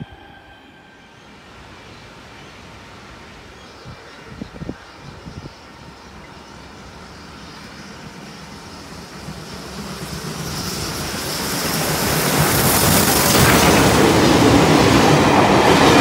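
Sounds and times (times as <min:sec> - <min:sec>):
steam locomotive approaching: 0:00.0 - 0:16.0.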